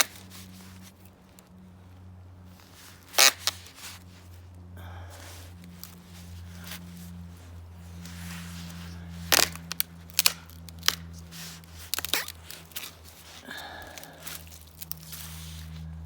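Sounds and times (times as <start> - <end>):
twigs snapping and crunching: 0.0 - 1.6, 2.6 - 16.0
steady low hum: 0.0 - 16.0.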